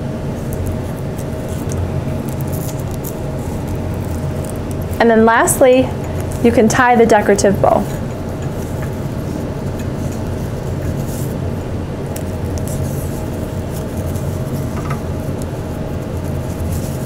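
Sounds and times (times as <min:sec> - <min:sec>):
low background hum: 0:00.0 - 0:17.0
ribbon rustling: 0:00.3 - 0:17.0.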